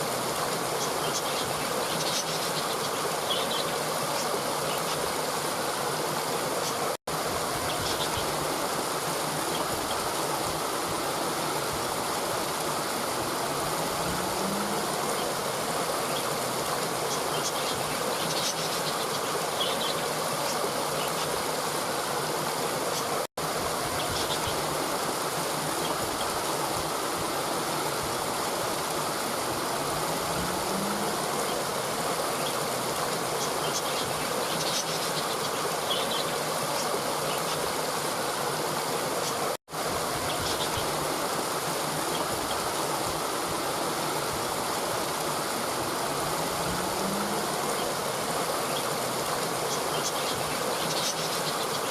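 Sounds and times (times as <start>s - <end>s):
running water rushing: 0.0s - 51.9s.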